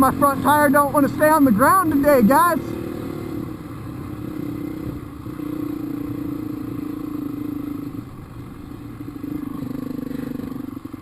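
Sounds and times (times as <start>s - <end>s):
dirt bike engine under throttle: 0.0s - 11.0s.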